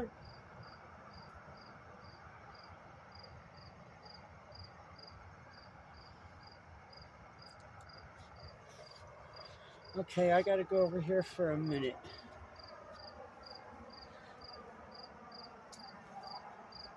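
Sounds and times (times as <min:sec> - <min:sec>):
faint background noise: 0:00.0 - 0:16.9
insect chirping: 0:00.2 - 0:10.1, 0:11.6 - 0:16.9.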